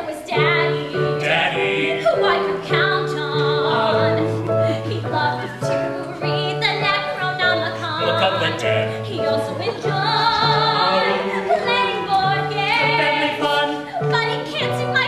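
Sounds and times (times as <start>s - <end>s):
woman singing show tune: 0.0s - 15.0s.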